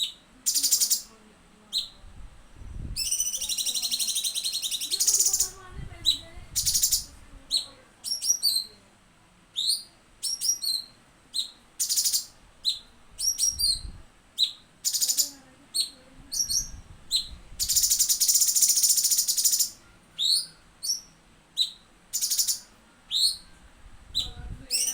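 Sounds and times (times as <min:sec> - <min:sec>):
bird high-pitched chirps and whistles: 0:00.0 - 0:01.1, 0:03.0 - 0:08.8, 0:09.6 - 0:24.9
bird trill: 0:00.0 - 0:01.1, 0:03.0 - 0:08.8, 0:09.6 - 0:23.6, 0:24.2 - 0:24.9.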